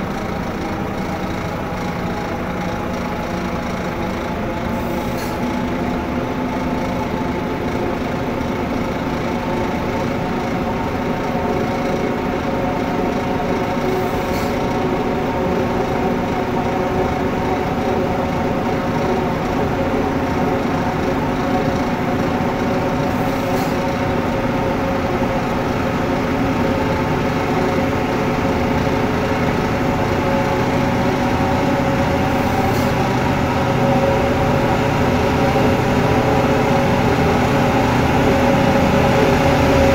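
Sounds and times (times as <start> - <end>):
truck mechanical drone: 0.0 - 39.9.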